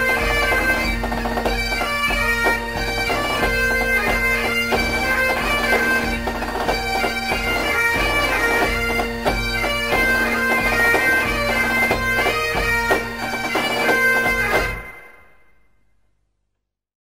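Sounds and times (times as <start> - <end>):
bass drum beating: 0.0 - 14.7
bagpipes playing: 0.0 - 15.4.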